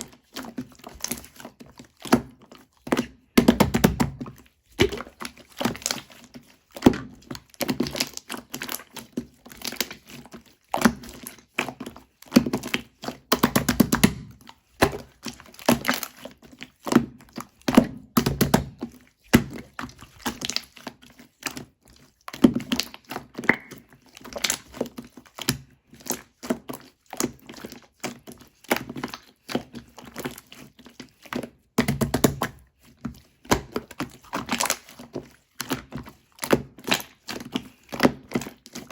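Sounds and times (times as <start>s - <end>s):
slime squishing and popping: 1.0s - 20.9s, 22.3s - 30.4s, 31.8s - 32.6s, 33.2s - 38.9s.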